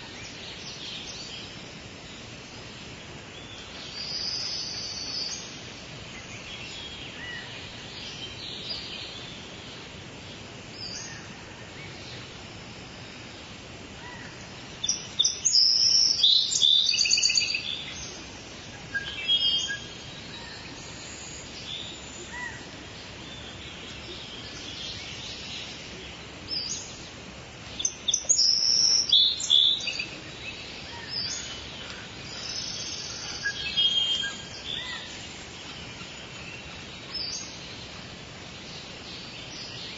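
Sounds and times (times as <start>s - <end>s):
soft rain: 0.0s - 39.9s
songbirds chirping: 0.0s - 39.9s.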